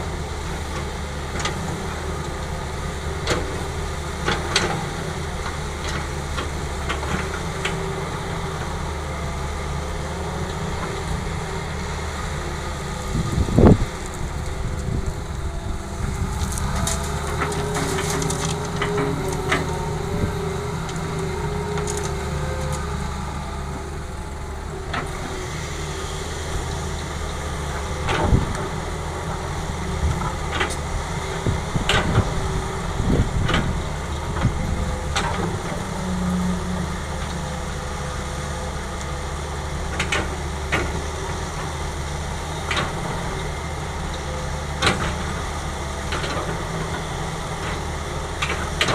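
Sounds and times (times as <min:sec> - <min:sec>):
heavy machinery engine running: 0:00.0 - 0:48.9.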